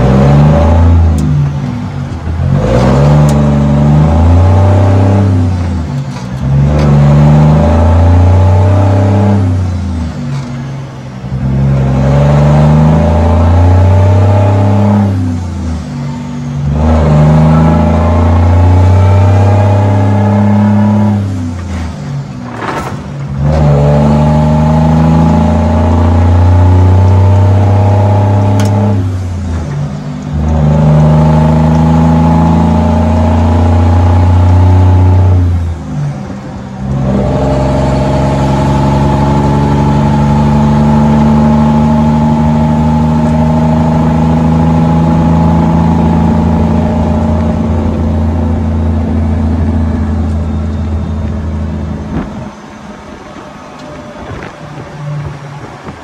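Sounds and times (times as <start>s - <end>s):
diesel truck engine pulling through gears: 0.0s - 56.0s.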